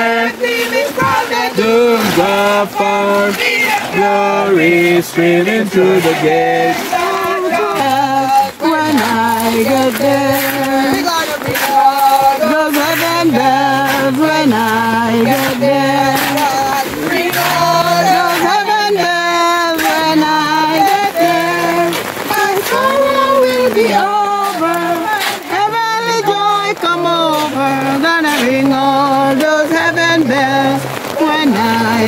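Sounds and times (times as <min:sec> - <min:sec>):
voices singing a hymn: 0:00.0 - 0:32.0.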